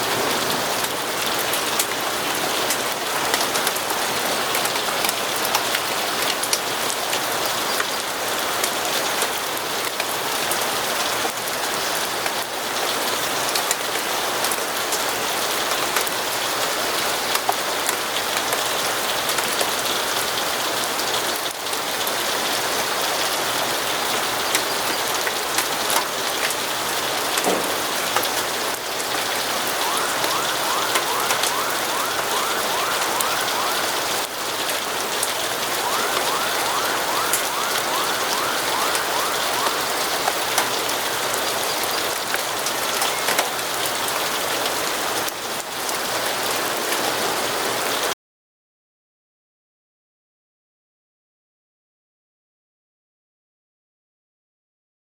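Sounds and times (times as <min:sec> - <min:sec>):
steady rain falling: 0:00.0 - 0:48.2.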